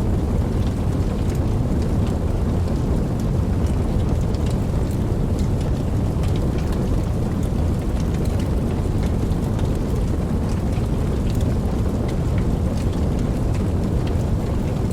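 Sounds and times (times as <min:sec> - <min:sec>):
heavy rain: 0:00.0 - 0:14.9.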